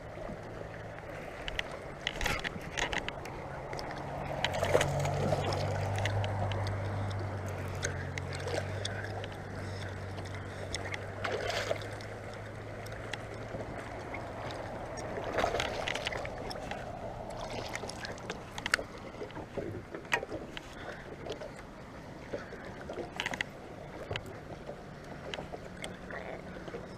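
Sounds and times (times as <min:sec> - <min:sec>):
boat motor hum: 0:00.0 - 0:26.9
water wash: 0:00.0 - 0:26.9
light clicks and knocks: 0:01.4 - 0:17.0, 0:17.7 - 0:21.7, 0:22.3 - 0:26.9.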